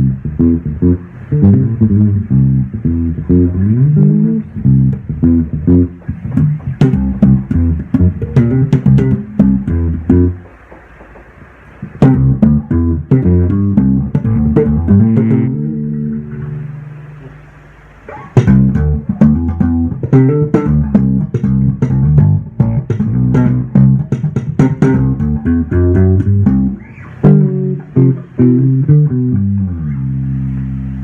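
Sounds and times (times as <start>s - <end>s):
plucked bass guitar notes: 0.0s - 31.0s.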